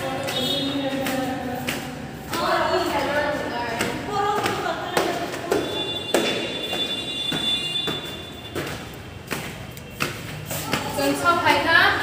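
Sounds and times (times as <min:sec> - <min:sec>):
footsteps on hard floor and stairs: 0:00.0 - 0:12.0.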